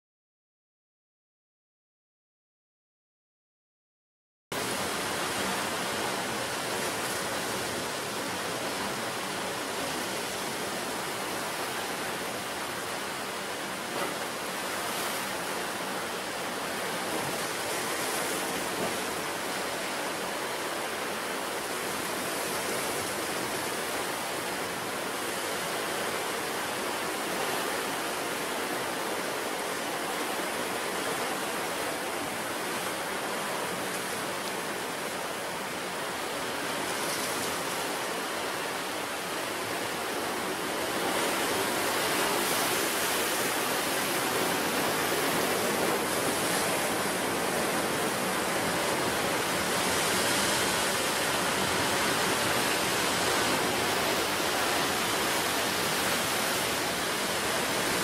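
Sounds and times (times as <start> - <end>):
ocean surf breaking: 4.6 - 58.0.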